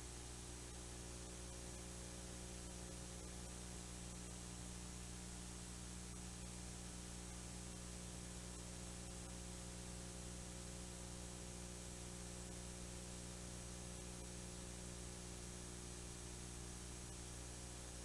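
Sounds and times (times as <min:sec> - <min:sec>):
faint electrical hum with hiss: 0:00.0 - 0:18.0.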